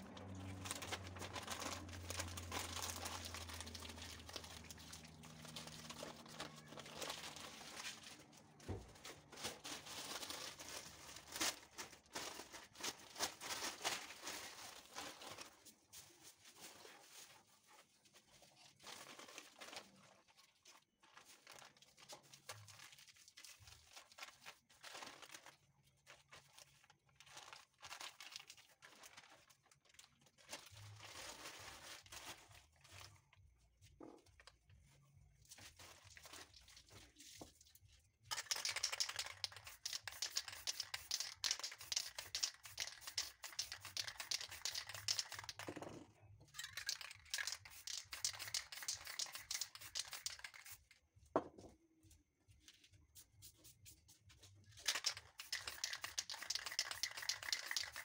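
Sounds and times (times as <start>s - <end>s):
paper crinkling: 0.0s - 45.8s, 46.5s - 50.9s, 52.5s - 58.0s
plastic wrap crinkling: 0.0s - 45.8s, 46.5s - 51.0s, 54.4s - 58.0s.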